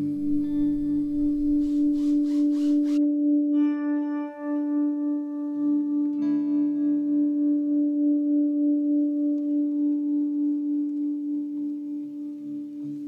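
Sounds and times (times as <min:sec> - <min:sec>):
background music held tones: 0:00.0 - 0:13.0.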